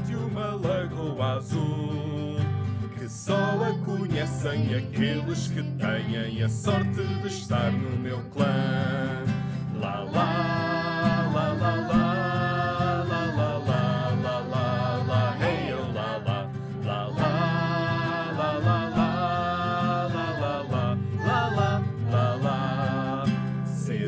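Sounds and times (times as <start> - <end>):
guitar: 0.0 - 24.0
voices singing together: 3.0 - 24.0.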